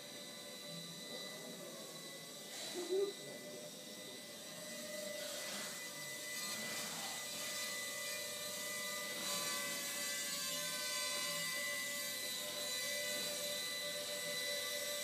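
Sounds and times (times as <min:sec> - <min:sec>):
quadcopter propellers whirring: 0:00.0 - 0:15.0.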